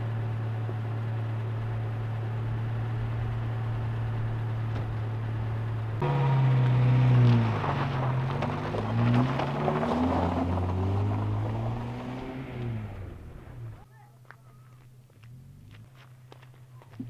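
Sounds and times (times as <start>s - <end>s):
car engine running: 0.0s - 13.9s, 14.6s - 17.0s.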